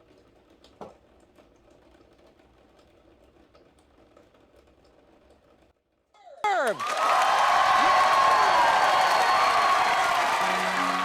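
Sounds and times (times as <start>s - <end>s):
faint rain patter: 0.0s - 6.1s, 6.8s - 11.0s.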